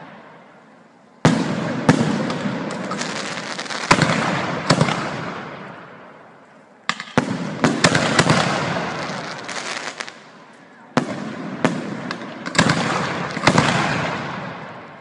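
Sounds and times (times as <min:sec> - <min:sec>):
fireworks rumble: 0:00.0 - 0:15.0
fireworks bangs: 0:01.2 - 0:06.2, 0:06.9 - 0:15.0.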